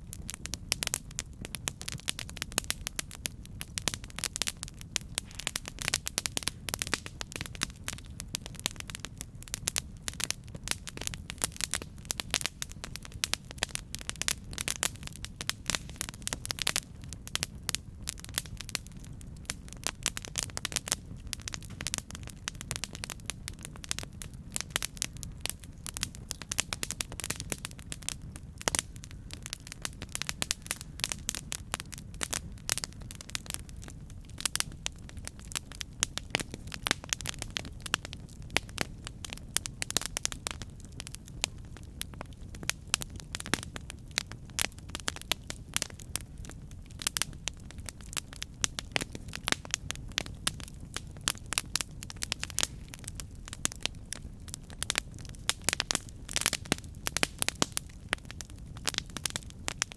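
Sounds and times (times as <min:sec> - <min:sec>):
campfire crackling and popping: 0:00.0 - 0:59.9
low rumble of flames: 0:00.0 - 0:59.9.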